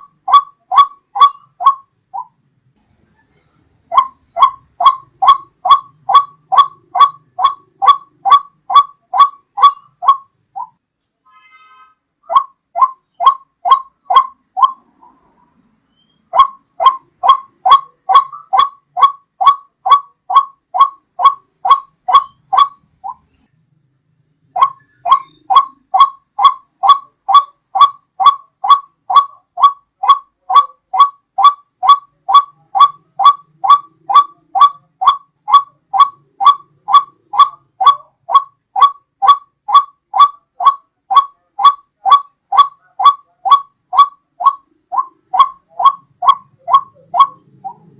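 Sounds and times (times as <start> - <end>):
waterhen call: 0.0 - 2.3, 3.9 - 10.8, 12.2 - 15.3, 15.9 - 23.5, 24.6 - 47.9.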